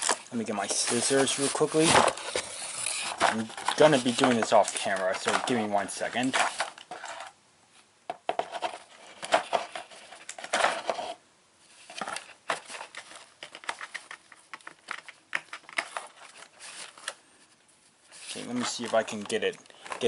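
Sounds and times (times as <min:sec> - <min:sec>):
rustling and clattering of objects: 0:00.0 - 0:07.4, 0:08.1 - 0:20.0.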